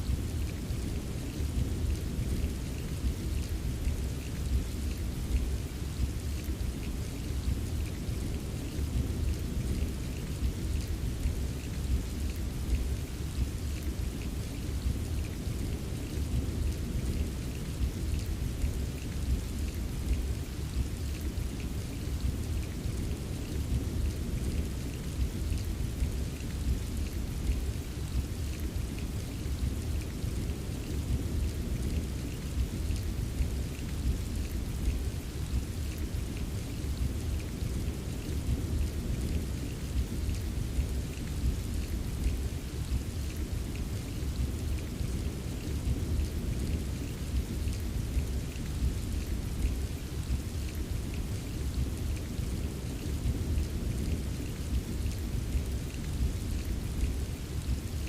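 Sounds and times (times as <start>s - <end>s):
rainfall with patter of drops: 0.0s - 58.0s.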